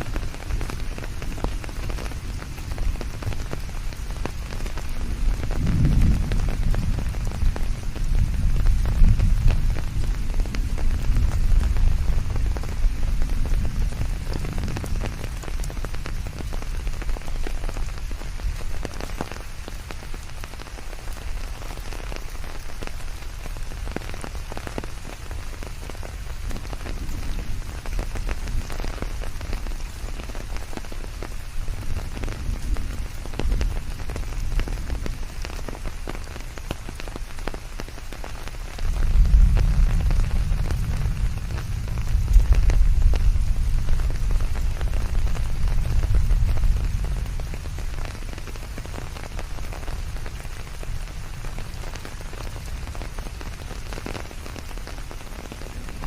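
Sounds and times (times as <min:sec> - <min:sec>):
rain drops pattering: 0:00.0 - 0:56.0
white-noise hiss: 0:00.0 - 0:56.0.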